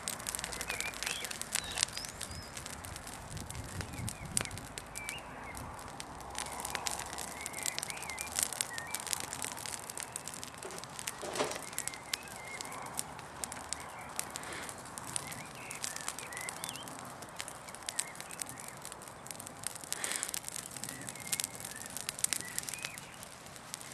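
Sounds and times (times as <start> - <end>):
fire crackling and popping: 0.0 - 23.9
birds chirping: 0.3 - 23.9.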